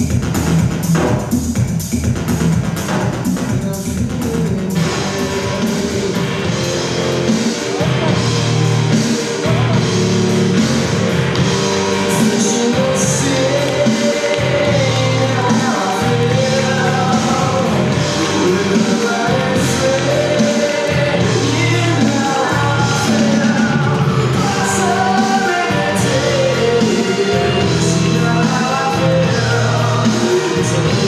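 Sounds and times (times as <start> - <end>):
rock song with singing: 3.3 - 31.0.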